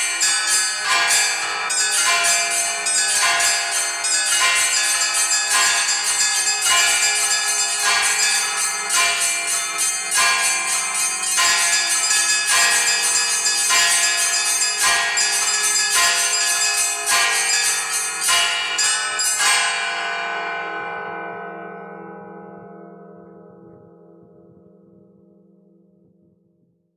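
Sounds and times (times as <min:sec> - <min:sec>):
church bells ringing a peal: 0:00.0 - 0:25.1.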